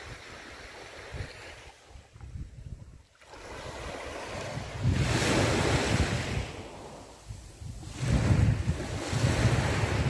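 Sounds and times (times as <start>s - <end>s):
small waves breaking on sand: 0.0s - 10.0s
wind buffeting microphone: 0.0s - 10.0s.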